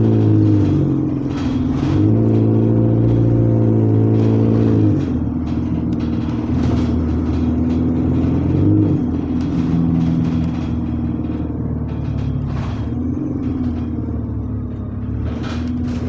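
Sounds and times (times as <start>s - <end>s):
bus diesel engine under load: 0.0s - 16.0s.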